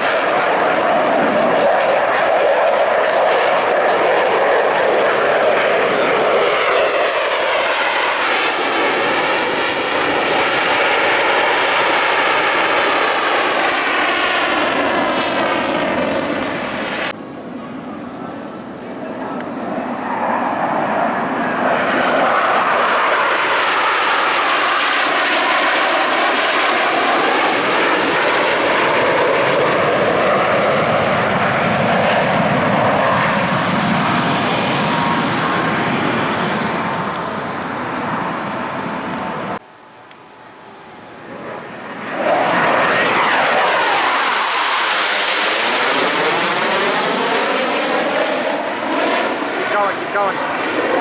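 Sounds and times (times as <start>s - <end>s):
jets passing low overhead: 0.0s - 51.0s.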